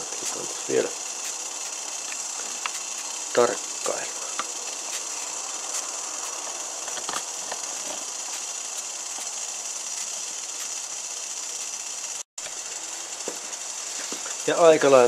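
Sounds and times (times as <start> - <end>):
camp stove hissing: 0.0 - 15.0.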